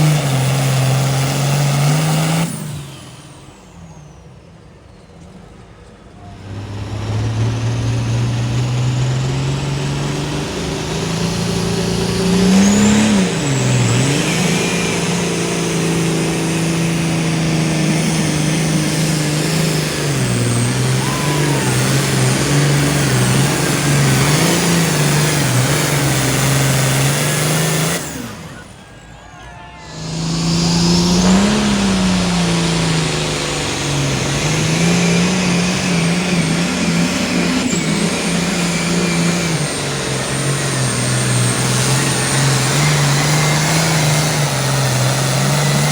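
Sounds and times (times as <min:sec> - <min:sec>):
pulling vehicle engine revving: 0:00.0 - 0:45.9.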